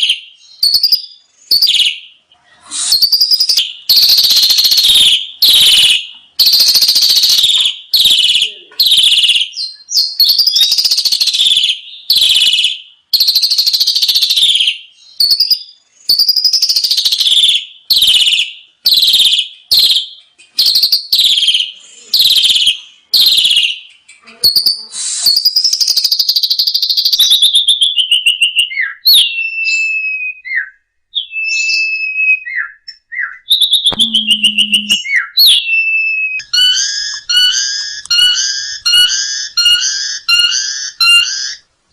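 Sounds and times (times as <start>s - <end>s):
starling singing: 0.0s - 41.7s.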